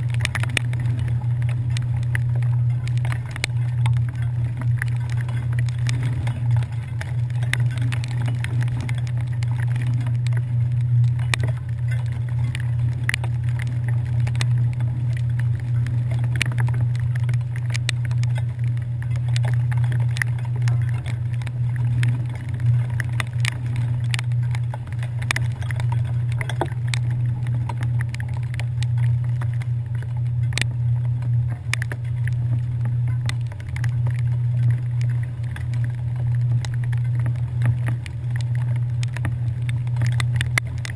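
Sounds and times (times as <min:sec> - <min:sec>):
rain ticking on camera: 0:00.0 - 0:40.9.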